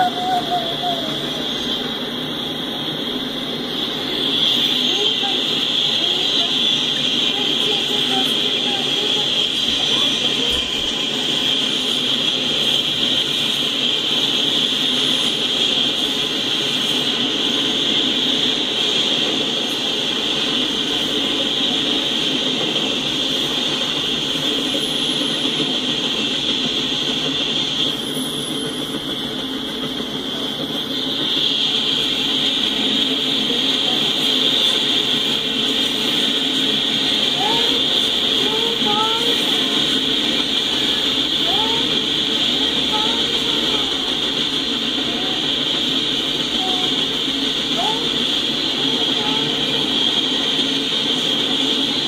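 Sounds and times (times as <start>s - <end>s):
high-pitched ringing: 0.0s - 52.0s
train wheels rolling on rails: 0.0s - 52.0s.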